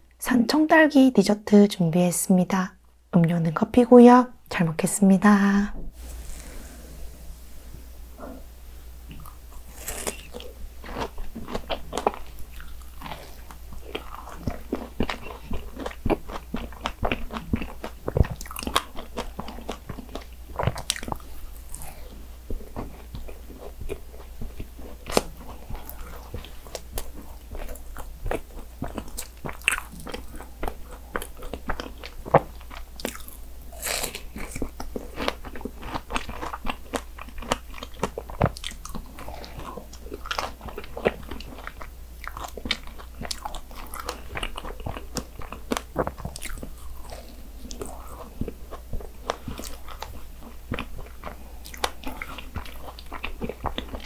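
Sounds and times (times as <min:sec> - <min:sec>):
person chewing: 0:09.1 - 0:54.0.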